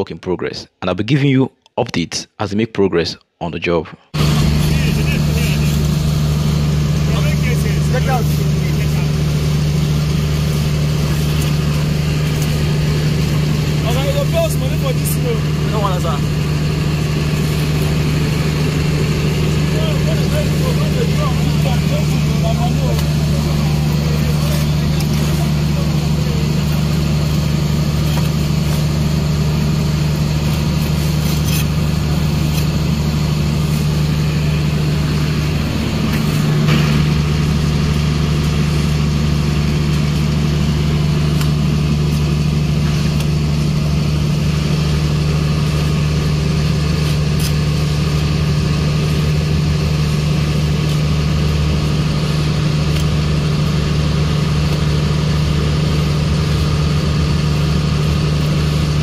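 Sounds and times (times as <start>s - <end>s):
engine idling: 4.1s - 59.0s.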